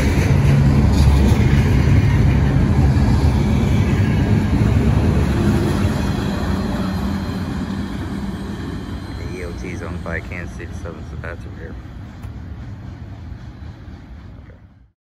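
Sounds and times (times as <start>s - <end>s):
freight train wheels rumbling on rails: 0.0s - 14.9s.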